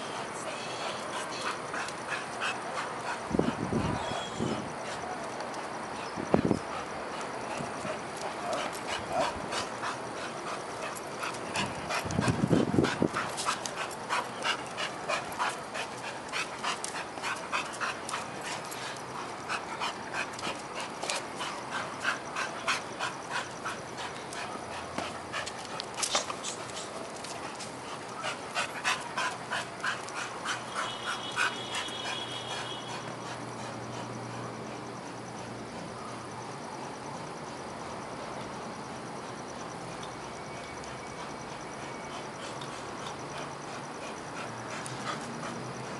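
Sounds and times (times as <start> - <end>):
dog panting hard: 0.8 - 5.1, 6.6 - 35.6, 41.2 - 45.9.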